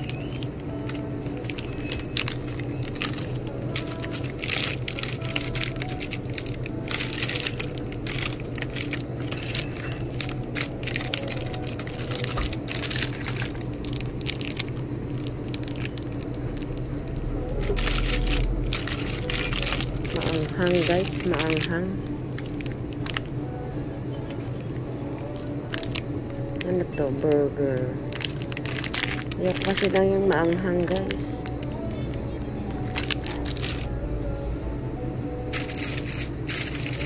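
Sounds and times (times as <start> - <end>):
plastic wrappers crinkling: 0.0 - 23.3, 25.0 - 31.9, 32.7 - 34.0, 35.5 - 37.0
steady low hum: 0.0 - 37.0.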